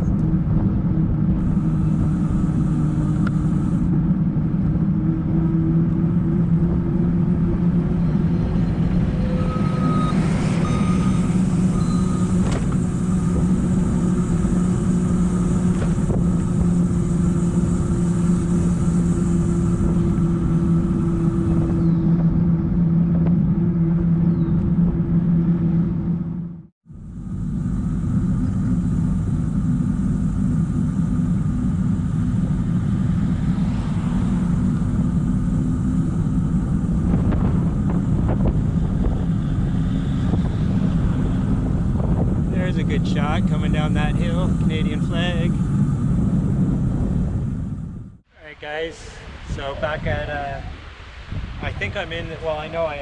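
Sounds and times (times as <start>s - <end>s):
wind on microphone: 0.0s - 48.2s, 49.0s - 53.0s
bicycle tyres humming on pavement: 0.0s - 53.0s
constant low drone: 0.0s - 53.0s.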